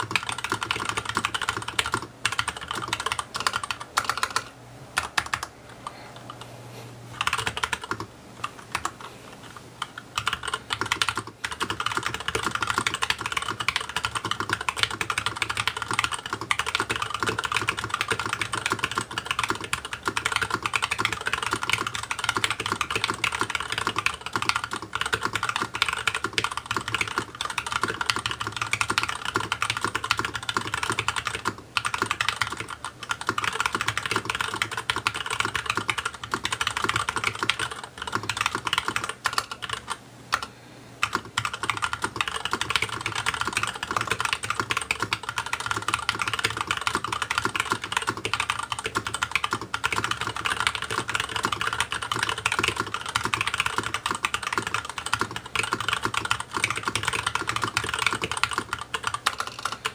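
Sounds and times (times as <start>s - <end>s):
mechanical keyboard typing: 0.0s - 6.4s, 7.2s - 59.9s.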